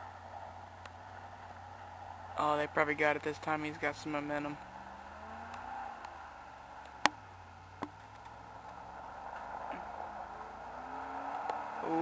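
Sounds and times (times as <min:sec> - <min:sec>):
distant car engine: 0:00.0 - 0:12.0.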